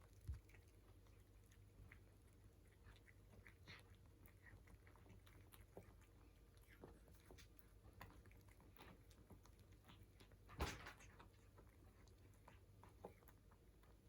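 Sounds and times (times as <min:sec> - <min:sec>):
cats chewing food: 0:00.0 - 0:14.0.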